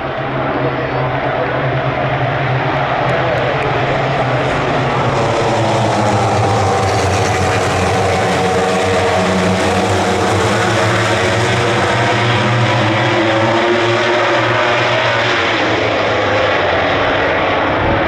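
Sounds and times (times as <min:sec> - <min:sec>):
racing motorcycle engines: 0:00.0 - 0:18.0.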